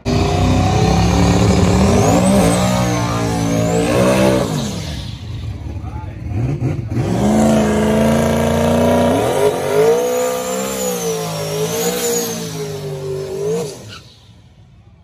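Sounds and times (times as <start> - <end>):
car engine revving high: 0.0 - 13.9.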